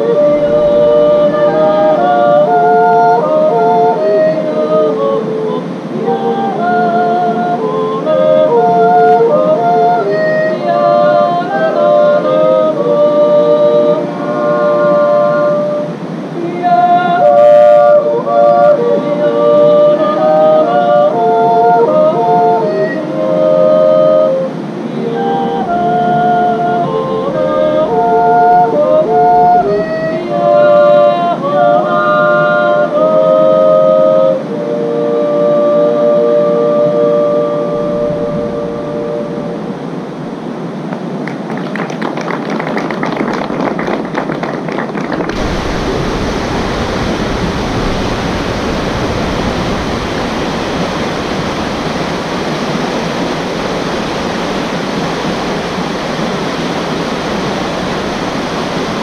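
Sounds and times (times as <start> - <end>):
yodel singing in harmony: 0.0 - 44.3, 45.0 - 59.0.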